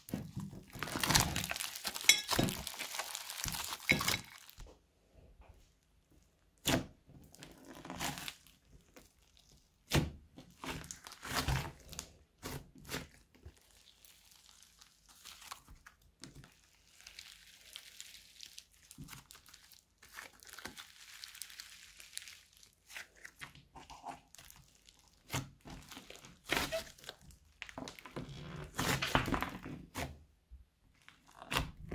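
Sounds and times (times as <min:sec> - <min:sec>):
slime squishing: 0:00.0 - 0:04.6, 0:06.4 - 0:31.9.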